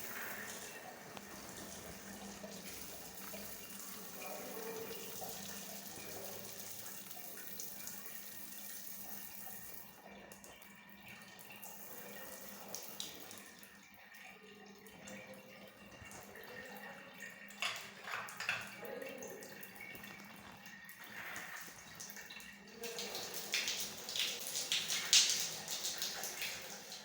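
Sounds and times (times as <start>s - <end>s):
water running from a tap: 0.0s - 27.0s.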